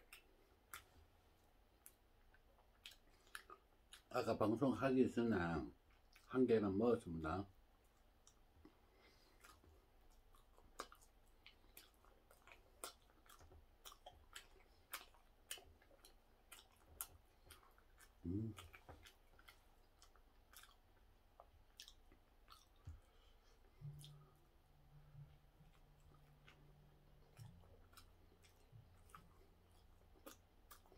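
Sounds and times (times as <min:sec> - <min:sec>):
man chewing with lip smacks: 0:00.0 - 0:04.2, 0:05.7 - 0:06.3, 0:07.5 - 0:30.9.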